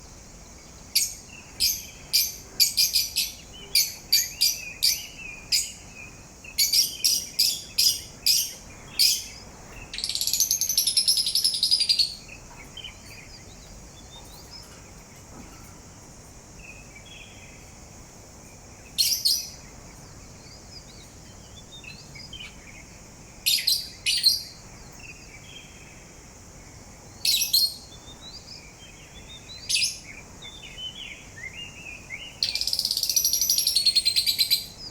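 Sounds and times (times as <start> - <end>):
soft faint twittering: 0.0 - 34.9.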